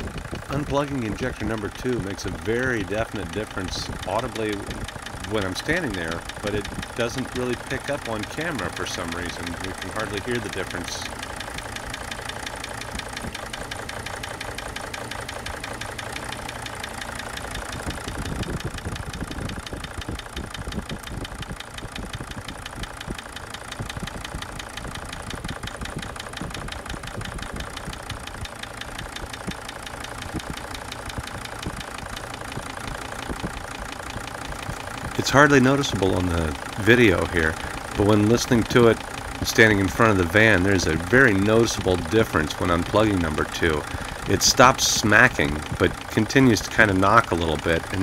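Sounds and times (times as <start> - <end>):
diesel engine idling with knock: 0.0 - 48.0.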